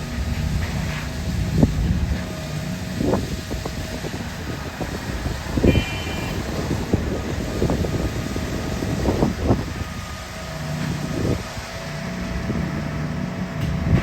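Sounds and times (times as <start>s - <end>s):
heavy machinery engine rumble: 0.0s - 14.0s
high whine: 0.0s - 14.0s.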